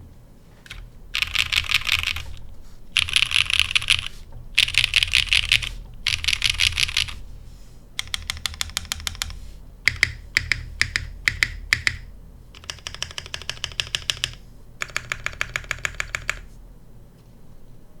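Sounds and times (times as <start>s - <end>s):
mechanical keyboard typing: 0.6s - 2.4s, 3.0s - 7.2s, 8.0s - 16.5s.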